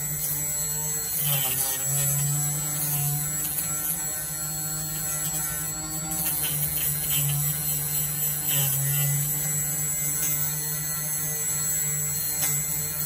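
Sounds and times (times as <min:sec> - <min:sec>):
cutting machine motor humming: 0:00.0 - 0:13.0.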